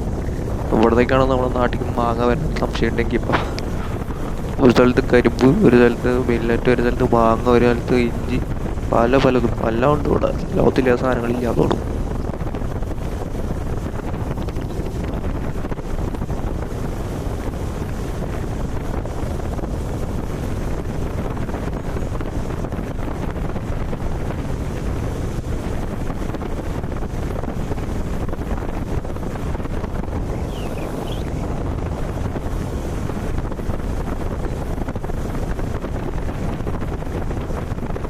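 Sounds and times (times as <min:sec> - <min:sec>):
road and engine rumble: 0:00.0 - 0:26.4, 0:28.4 - 0:36.6
wind buffeting microphone: 0:00.0 - 0:38.0.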